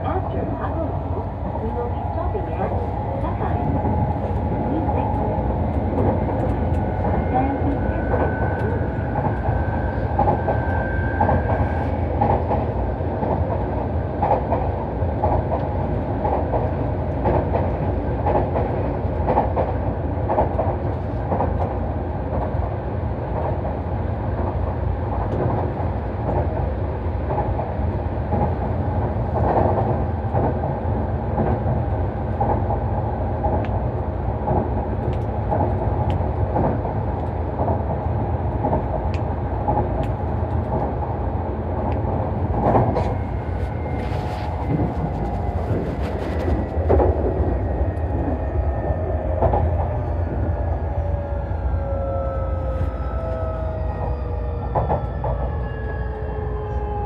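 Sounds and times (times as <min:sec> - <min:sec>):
rail joints clickety-clack: 0:00.0 - 0:57.0
train wheels rumbling on rail: 0:00.0 - 0:57.0.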